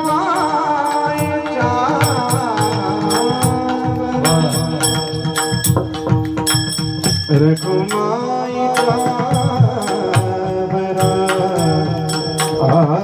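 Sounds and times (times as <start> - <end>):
devotional folk music: 0.0 - 13.0
hand drum strokes: 0.0 - 13.0
held instrumental tones: 0.0 - 13.0.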